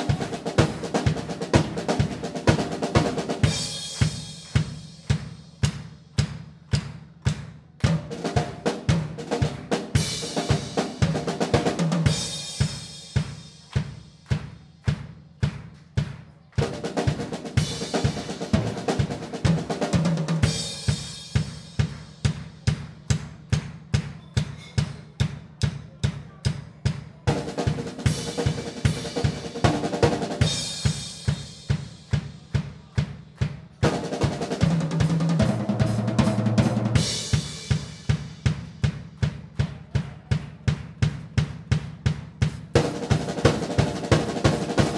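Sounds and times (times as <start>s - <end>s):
drum kit played hard: 0.0s - 26.0s, 26.9s - 44.9s.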